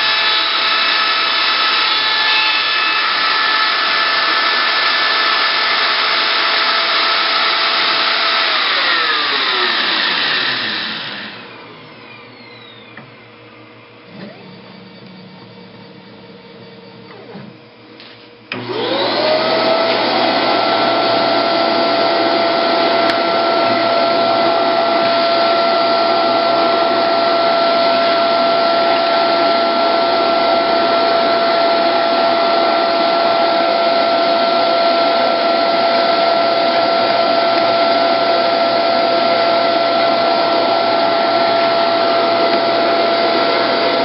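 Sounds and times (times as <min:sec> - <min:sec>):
router spindle motor whining: 0:00.0 - 0:44.0.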